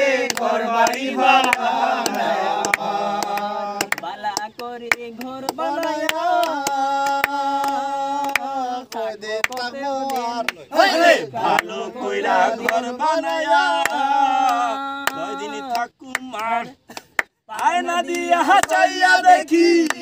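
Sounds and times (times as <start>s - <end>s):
men singing together: 0.0s - 16.9s, 17.5s - 20.0s
hand claps: 0.0s - 20.0s.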